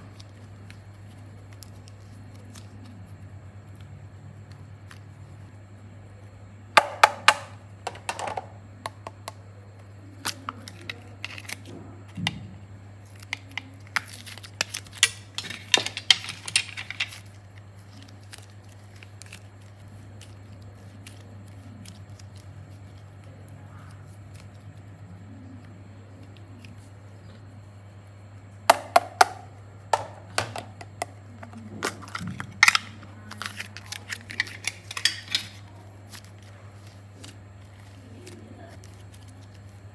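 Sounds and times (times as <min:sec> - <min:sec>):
clay kneaded by hand crackling: 0:00.0 - 0:39.9
steady low hum: 0:00.0 - 0:39.9.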